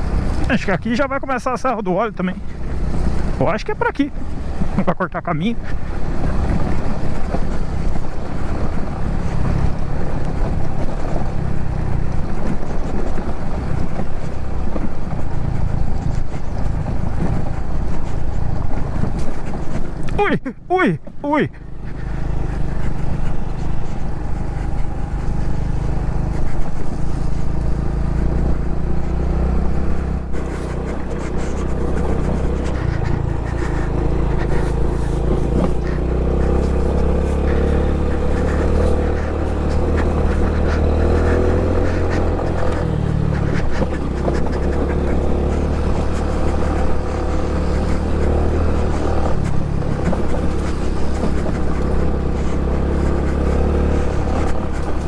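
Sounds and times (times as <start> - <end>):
low wind rumble: 0.0 - 55.0
motorcycle engine running: 0.0 - 55.0.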